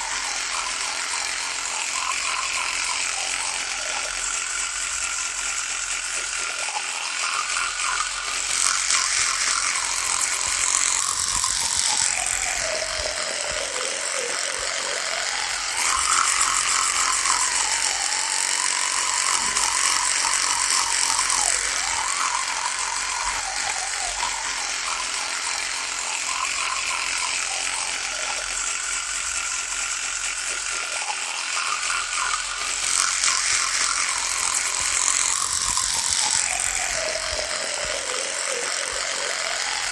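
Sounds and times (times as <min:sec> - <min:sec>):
electric toothbrush buzzing: 0:00.0 - 0:39.9.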